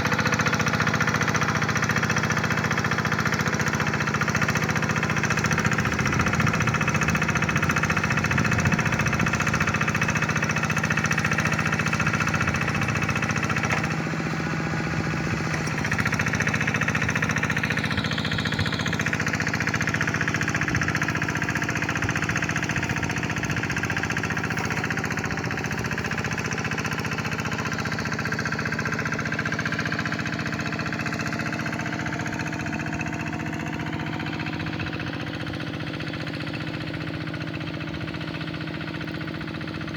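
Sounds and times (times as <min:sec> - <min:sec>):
hand tractor engine knocking: 0:00.0 - 0:39.9.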